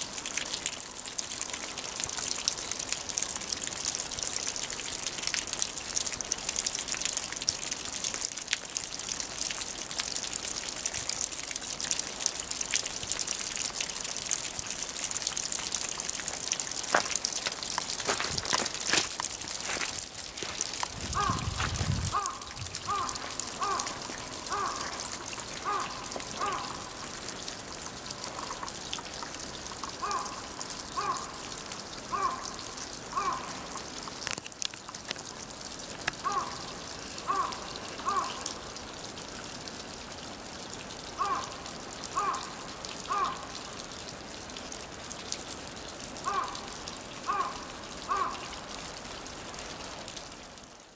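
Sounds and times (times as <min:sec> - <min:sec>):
snowmelt dripping from eaves: 0:00.0 - 0:50.9.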